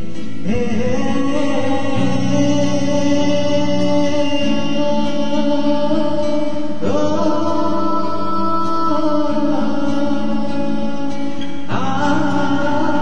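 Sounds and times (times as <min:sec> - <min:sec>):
guitar with long held notes: 0:00.0 - 0:13.0.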